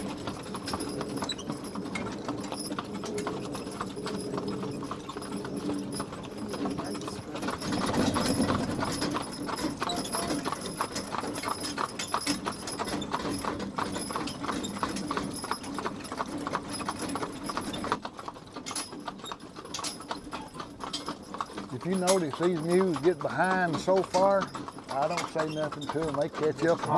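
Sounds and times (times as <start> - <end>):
mule hoofbeats: 0.0 - 26.9.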